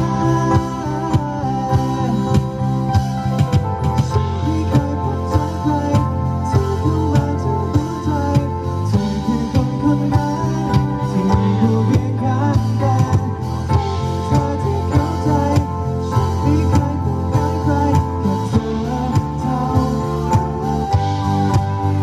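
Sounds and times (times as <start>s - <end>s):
live band playing: 0.0s - 22.0s
person singing: 4.1s - 22.0s.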